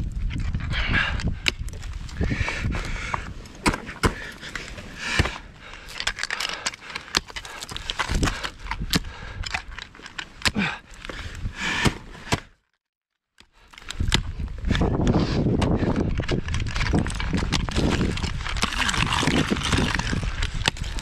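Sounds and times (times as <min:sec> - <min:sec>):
ice axes and metal hardware clicking: 0:00.3 - 0:12.5, 0:13.4 - 0:21.0.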